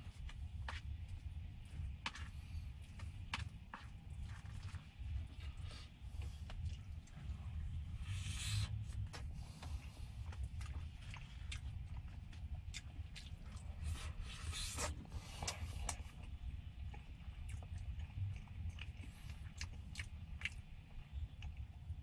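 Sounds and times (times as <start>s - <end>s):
chewing: 0.2s - 22.0s.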